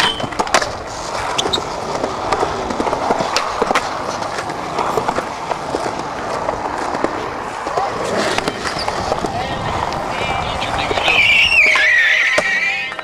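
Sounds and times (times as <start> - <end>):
skateboard clacks and knocks: 0.0 - 13.0
skateboard grinding metal handrail: 0.0 - 13.0
skateboard wheels rolling on concrete: 0.0 - 13.0.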